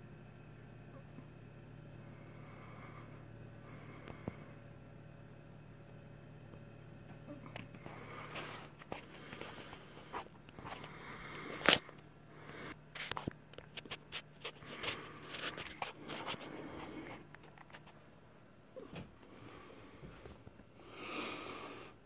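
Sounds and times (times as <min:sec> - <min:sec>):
computer fans humming: 0:00.0 - 0:22.0.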